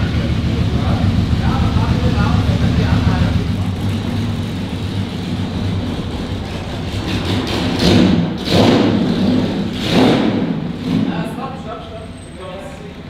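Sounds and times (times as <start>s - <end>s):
car engine running: 0.0s - 12.1s.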